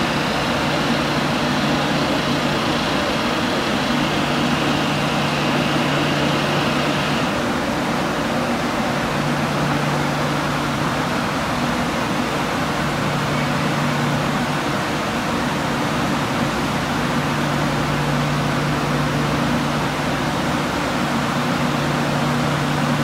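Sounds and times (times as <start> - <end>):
train equipment whirring hum: 0.0 - 23.0.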